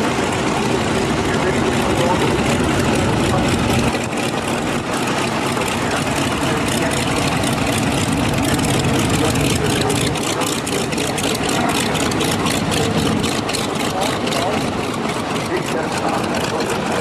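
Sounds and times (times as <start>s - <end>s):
piston aircraft engines droning: 0.0s - 17.0s.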